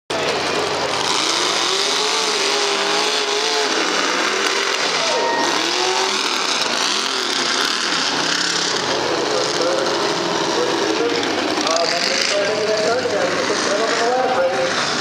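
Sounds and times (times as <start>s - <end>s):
truck engine revving: 0.1s - 15.0s.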